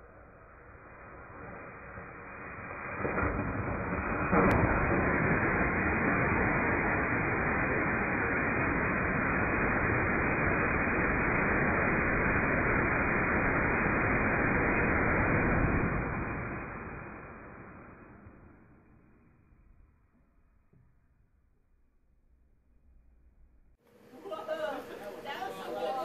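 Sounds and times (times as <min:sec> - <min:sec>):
rocket motor exhaust roar: 0:00.0 - 0:20.9.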